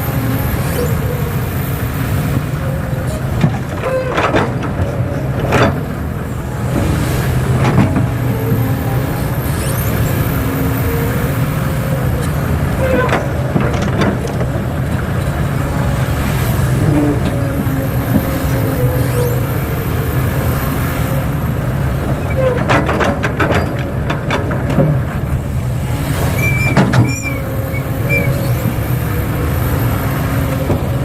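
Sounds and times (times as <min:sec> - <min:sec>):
machinery engine rumble: 0:00.0 - 0:31.0.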